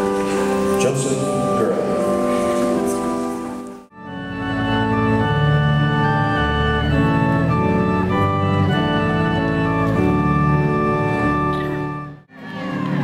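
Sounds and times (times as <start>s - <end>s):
organ playing processional music: 0.0s - 13.0s.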